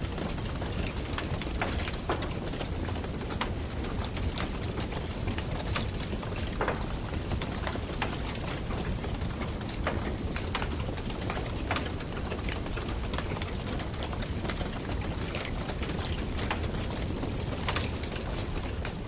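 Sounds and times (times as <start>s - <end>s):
campfire crackling and popping: 0.1s - 19.0s.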